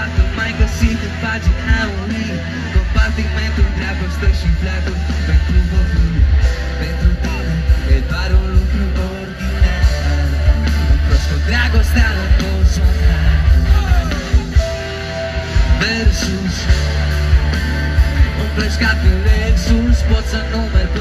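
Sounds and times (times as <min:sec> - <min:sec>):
electric guitar: 0:00.0 - 0:21.0
heavy bass guitar: 0:00.0 - 0:21.0
live pop-rock band: 0:00.0 - 0:21.0
person singing: 0:00.0 - 0:21.0
steady drum beat: 0:00.0 - 0:21.0.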